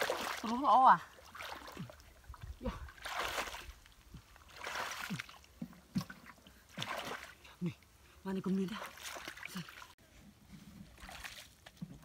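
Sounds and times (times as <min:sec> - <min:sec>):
pond water sloshing and splashing: 0:00.0 - 0:12.0.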